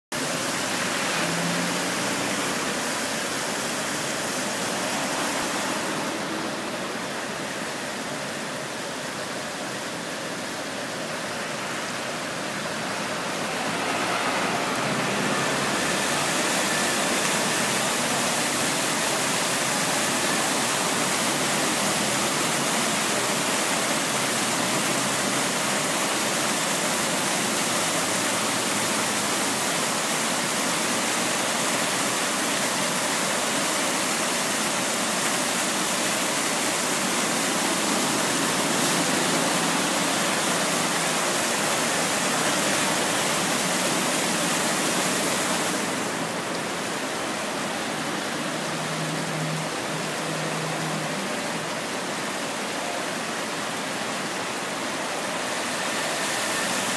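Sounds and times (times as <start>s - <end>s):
fountain water splashing into basin: 0.1s - 56.9s.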